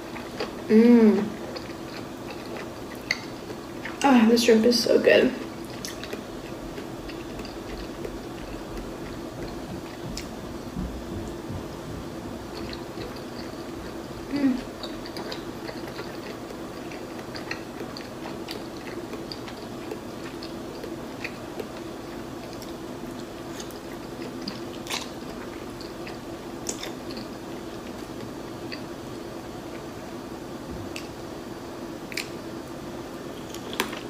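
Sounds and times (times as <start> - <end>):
chewing and wet mouth sounds: 0.0 - 4.2, 5.3 - 30.0, 30.8 - 31.2, 32.1 - 32.5
muffled hum: 0.0 - 34.0.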